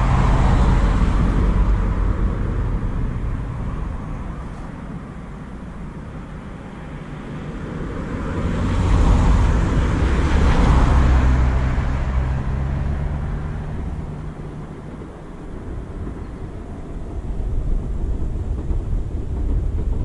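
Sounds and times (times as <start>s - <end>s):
vehicle passing by: 0.0s - 16.4s.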